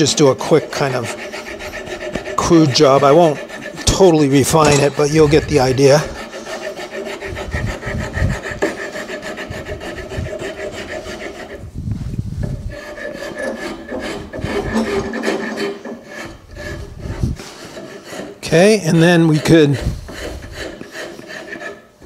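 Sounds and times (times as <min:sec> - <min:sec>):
rasp scraping wood: 0:00.0 - 0:22.0.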